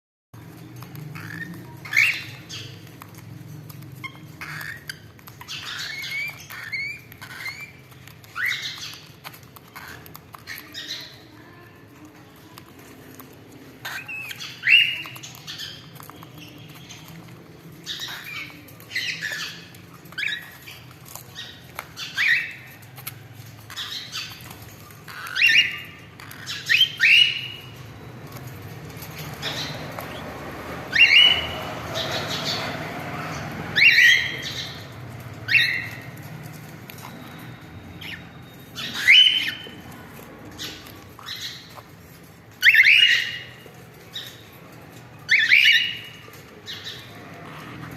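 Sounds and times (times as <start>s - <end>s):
cockatiels squawking: 0.5s - 47.9s.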